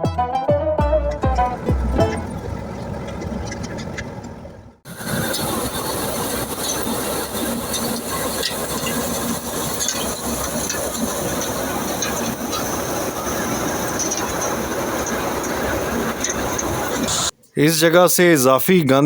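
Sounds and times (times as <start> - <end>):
thresher rattling: 1.1 - 17.3.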